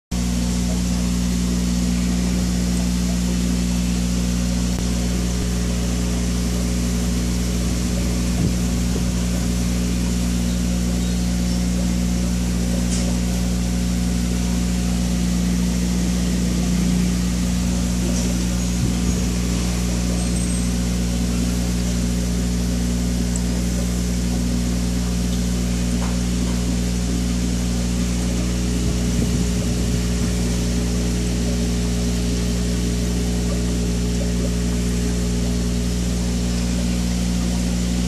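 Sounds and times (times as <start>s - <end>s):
aquarium air pump humming: 0.1s - 38.0s.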